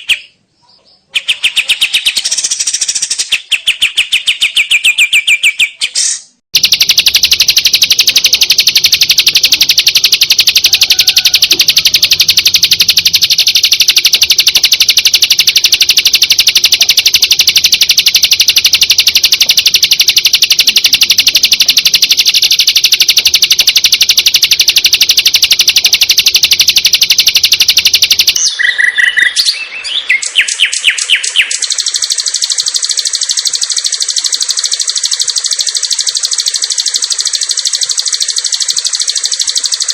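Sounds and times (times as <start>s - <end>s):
birdsong with fast trills: 0.0s - 39.9s.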